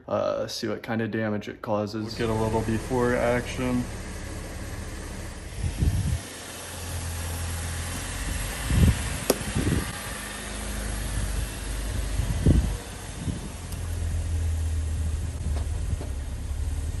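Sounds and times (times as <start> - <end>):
vehicle engine running: 2.1 - 17.0.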